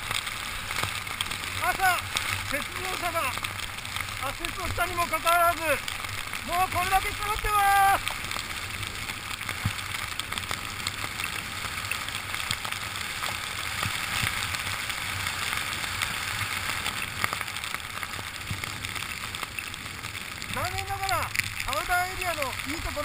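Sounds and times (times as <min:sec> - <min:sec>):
skis hissing through powder snow: 0:00.0 - 0:23.0.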